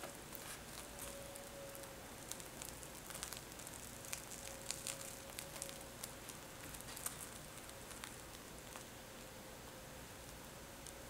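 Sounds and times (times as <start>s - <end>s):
bread crust crackling: 0.0s - 9.4s, 10.2s - 11.0s.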